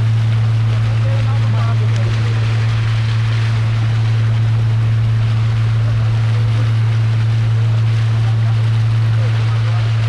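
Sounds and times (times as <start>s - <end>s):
boat motor humming: 0.0s - 10.0s
water rushing: 0.0s - 10.0s
wind: 0.0s - 10.0s.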